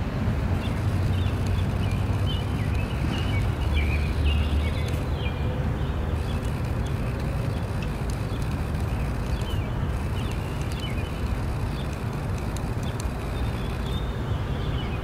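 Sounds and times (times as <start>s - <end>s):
birds chirping: 0.6s - 15.0s.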